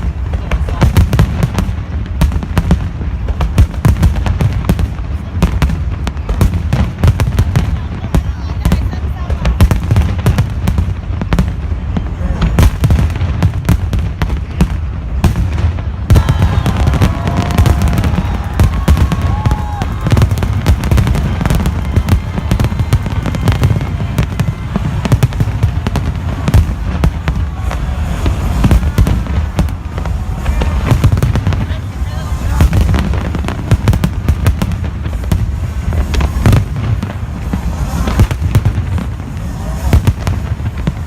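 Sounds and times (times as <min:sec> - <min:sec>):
deep fireworks booms: 0:00.0 - 0:41.0
fireworks bangs and crackling: 0:00.0 - 0:41.0.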